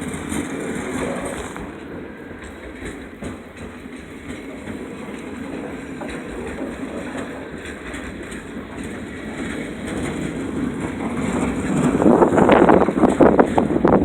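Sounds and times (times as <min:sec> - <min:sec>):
train wheels clacking over rail joints: 0:00.0 - 0:14.0.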